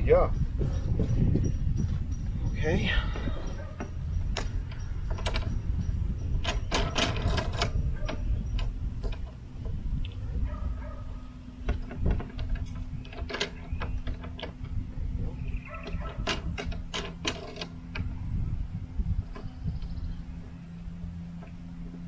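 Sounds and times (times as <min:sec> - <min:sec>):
low rumble: 0:00.0 - 0:22.0
steady low hum: 0:00.0 - 0:22.0.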